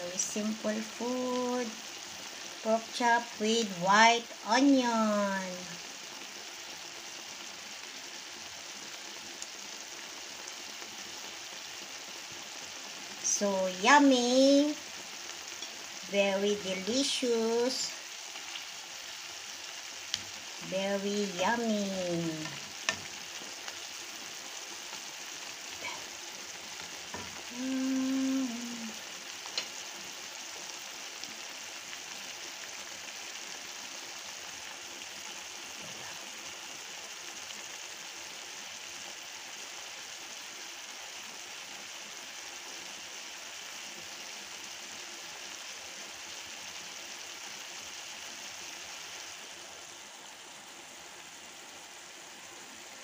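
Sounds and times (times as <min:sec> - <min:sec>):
meat and onion sizzling in pan: 0:00.0 - 0:53.0.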